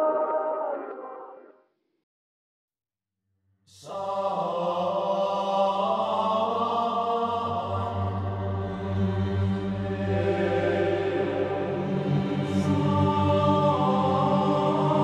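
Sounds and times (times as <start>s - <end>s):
choral chant over a drone: 0.0s - 1.5s, 3.7s - 15.0s.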